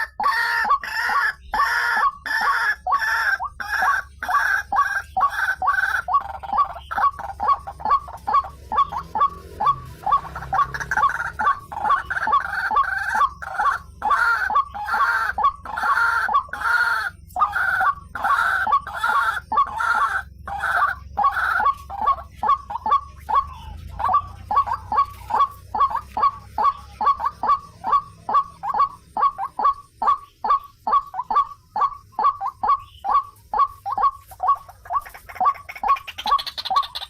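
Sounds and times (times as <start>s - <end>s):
waterhen calling: 0.0s - 37.0s.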